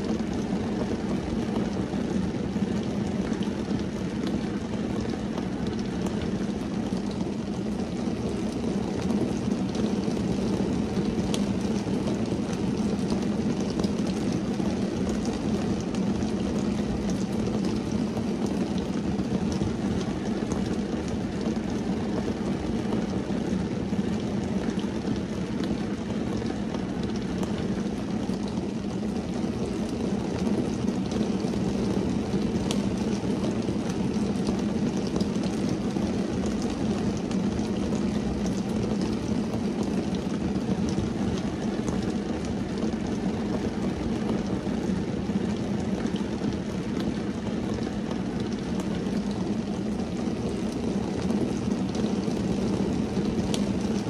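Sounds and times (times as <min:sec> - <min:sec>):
rain on a car roof: 0:00.0 - 0:54.0.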